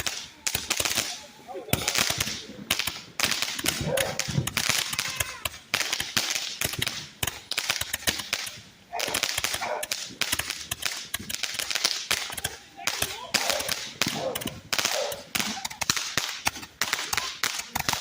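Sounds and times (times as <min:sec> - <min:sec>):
fireworks popping and crackling: 0:00.0 - 0:18.0.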